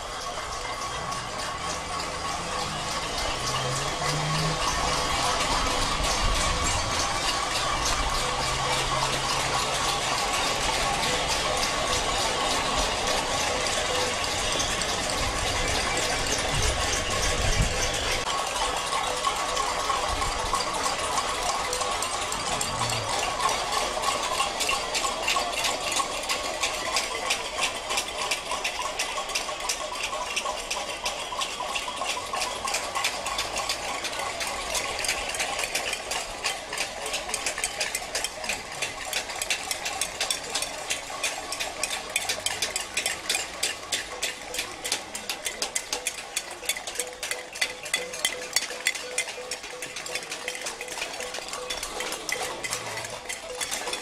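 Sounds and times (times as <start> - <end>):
crowd banging pots and pans: 0.0 - 54.0.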